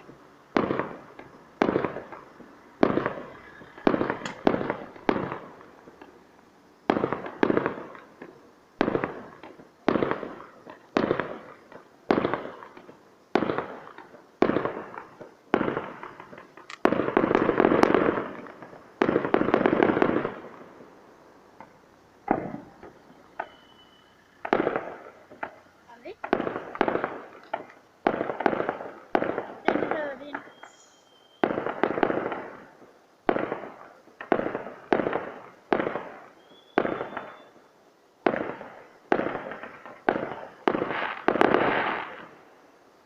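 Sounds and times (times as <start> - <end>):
small firework pops: 0.0 - 37.6, 38.2 - 43.0
firework bangs: 0.0 - 43.0
firework crackling: 0.0 - 43.0.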